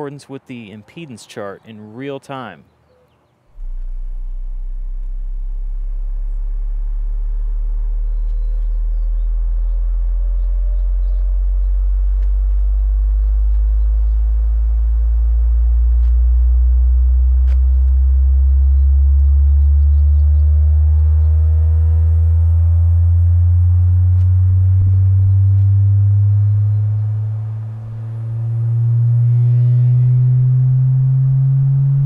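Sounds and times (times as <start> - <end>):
subwoofer sine-wave sweep: 3.6 - 32.0.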